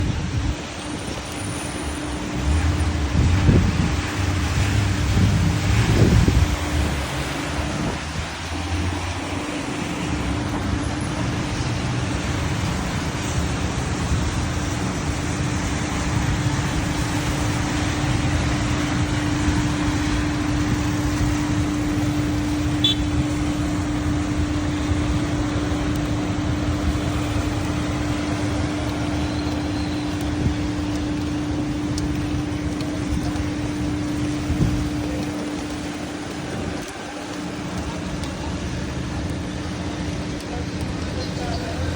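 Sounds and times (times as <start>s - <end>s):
constant hum: 0.0s - 41.9s
vehicle engine and road noise: 0.0s - 41.9s.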